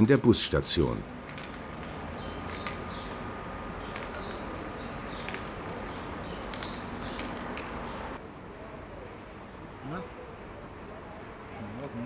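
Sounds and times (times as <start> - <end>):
street background noise: 0.0 - 12.0.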